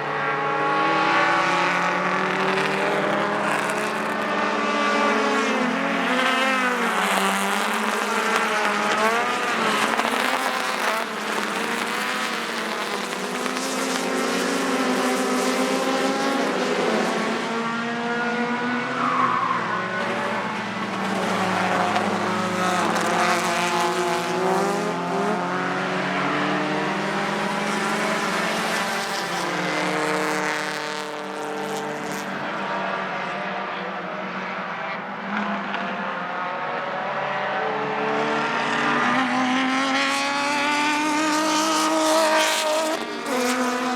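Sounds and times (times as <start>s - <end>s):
racing car engines passing: 0.0s - 43.9s.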